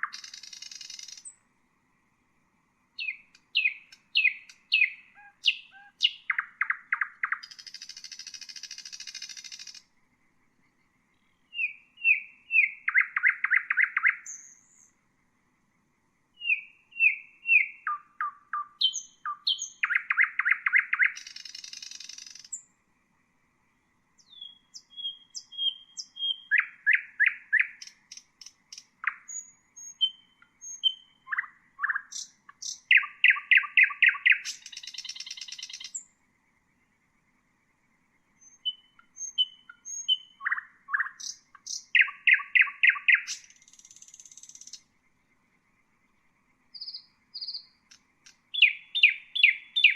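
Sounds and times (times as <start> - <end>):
nightingale singing: 0.0 - 1.5, 2.8 - 15.1, 16.3 - 22.9, 23.8 - 49.9.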